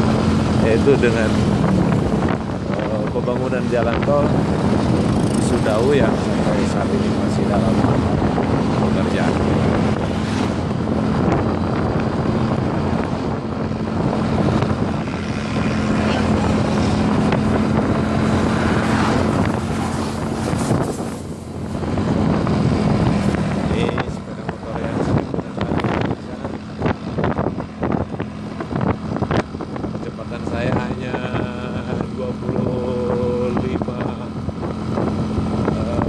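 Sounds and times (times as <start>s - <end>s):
motorcycle engine cruising: 0.0s - 36.0s
wind noise on microphone: 0.0s - 36.0s.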